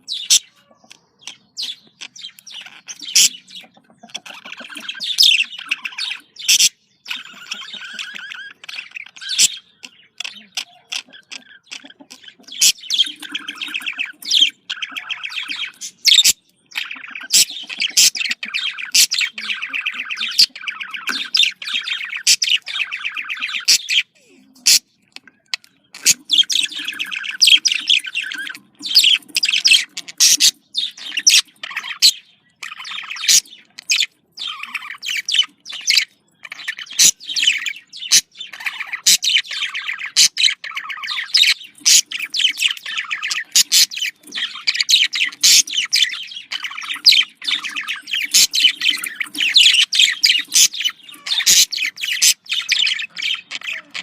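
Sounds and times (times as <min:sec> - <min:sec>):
budgerigars chattering and warbling: 0:00.0 - 0:54.0.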